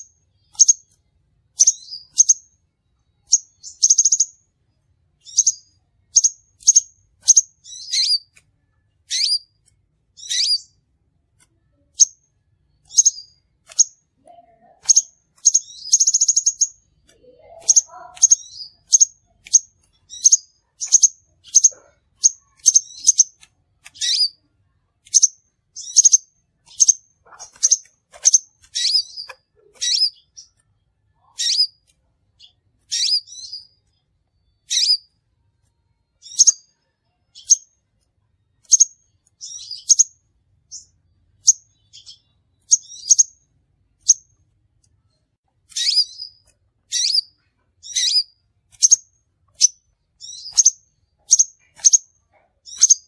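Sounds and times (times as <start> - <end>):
bird chirping high-pitched: 0.0 - 4.6, 5.2 - 10.8, 11.6 - 35.2, 36.0 - 38.0, 38.6 - 44.4, 45.7 - 53.0.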